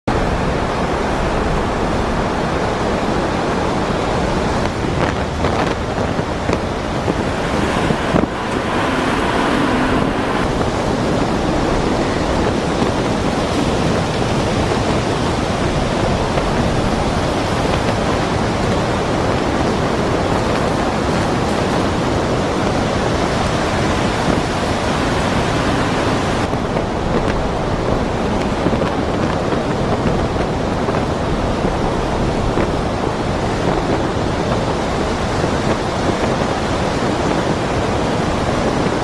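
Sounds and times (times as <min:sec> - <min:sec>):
strong wind: 0:00.0 - 0:39.0
ocean surf roaring: 0:00.1 - 0:39.0.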